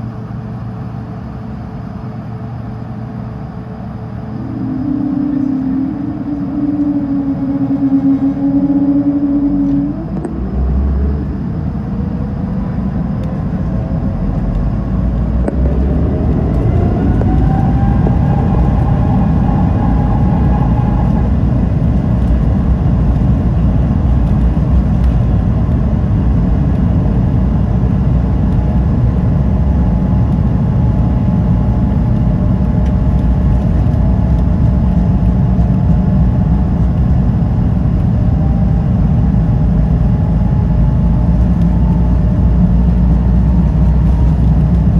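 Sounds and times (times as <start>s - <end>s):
engine and runway rumble: 0.0s - 44.9s
jet engines spooling up: 3.4s - 35.3s, 36.2s - 44.9s.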